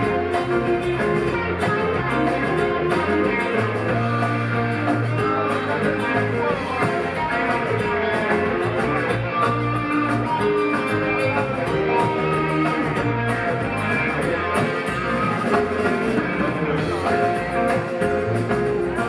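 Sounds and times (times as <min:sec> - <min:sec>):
electric guitar lead: 0:00.0 - 0:19.0
live rock band playing: 0:00.0 - 0:19.0.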